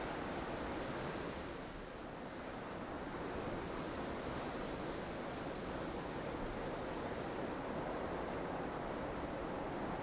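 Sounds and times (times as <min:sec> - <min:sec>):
wind blowing steadily: 0:00.0 - 0:10.0.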